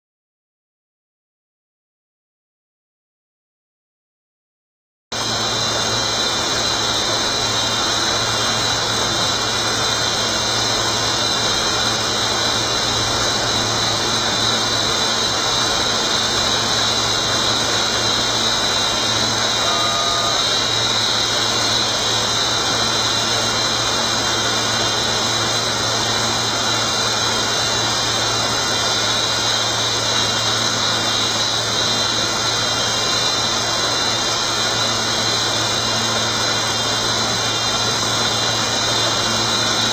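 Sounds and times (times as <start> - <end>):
low machine hum: 5.2 - 39.9
router spindle whine: 5.2 - 39.9.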